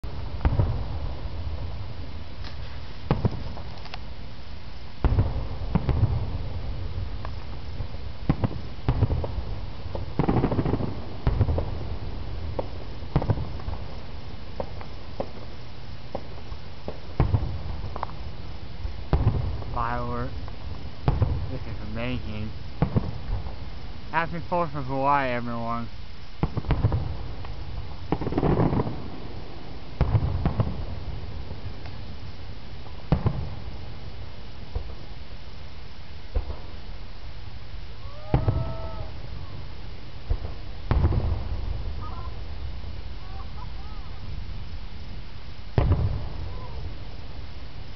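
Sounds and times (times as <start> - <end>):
distant fireworks bangs and pops: 0.0 - 4.1, 5.0 - 25.6, 26.4 - 35.2, 36.3 - 37.0, 38.0 - 44.7, 45.7 - 47.4.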